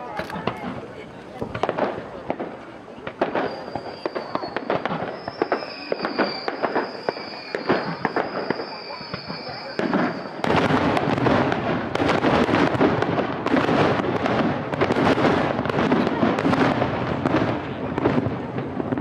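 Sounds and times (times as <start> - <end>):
fireworks crackling and bursting: 0.0 - 19.0.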